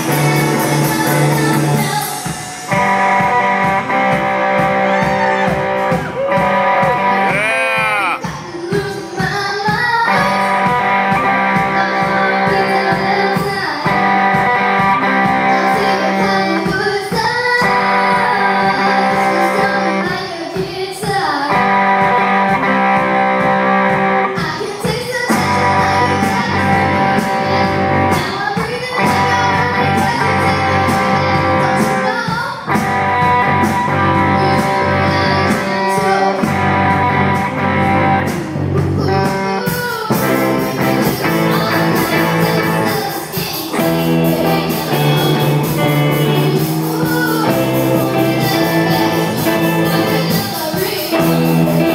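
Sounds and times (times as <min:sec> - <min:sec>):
bass guitar: 0:00.0 - 0:02.1, 0:02.7 - 0:08.5, 0:09.8 - 0:20.2, 0:21.5 - 0:24.5, 0:25.2 - 0:51.9
drums keeping a steady beat: 0:00.0 - 0:51.9
electric guitar: 0:00.0 - 0:51.9
woman singing lead: 0:00.0 - 0:51.9.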